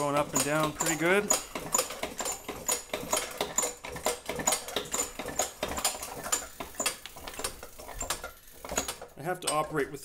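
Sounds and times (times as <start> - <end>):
air compressor knocking and squeaking: 0.0 - 10.0.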